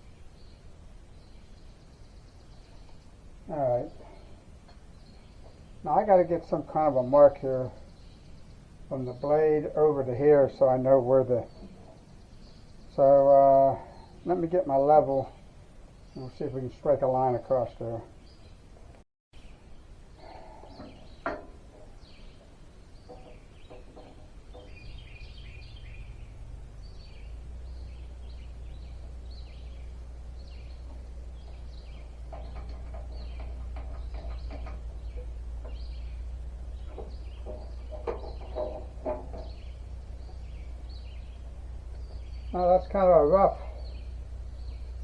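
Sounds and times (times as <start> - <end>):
low steady rumble: 0.0 - 45.0
small birds chirping: 0.0 - 45.0.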